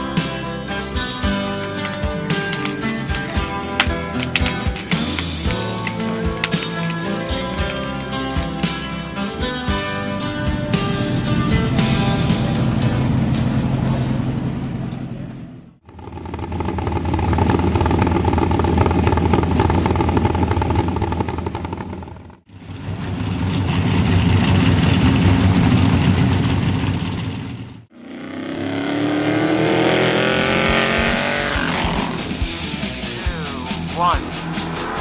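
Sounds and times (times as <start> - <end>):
truck engine running hard: 0.0 - 35.0.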